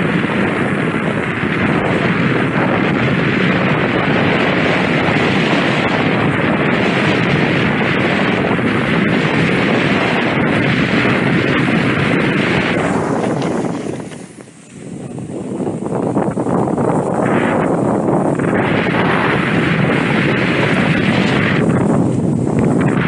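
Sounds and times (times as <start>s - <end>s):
snowboard sliding on snow: 0.0s - 23.0s
wind buffeting microphone: 0.0s - 23.0s.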